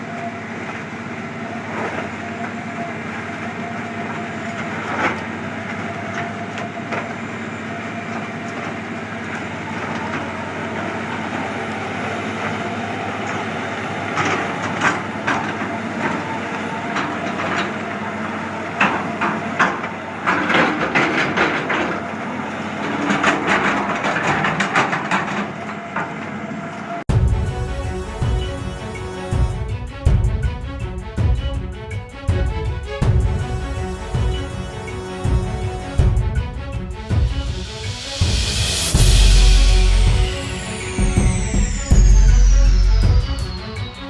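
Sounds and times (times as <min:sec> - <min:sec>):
heavy machine engine running: 0:00.0 - 0:44.0.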